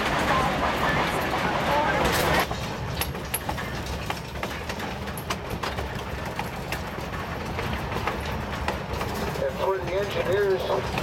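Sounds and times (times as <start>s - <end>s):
train rumble inside carriage: 0.0s - 11.0s
wheel clicks and knocks: 2.0s - 11.0s.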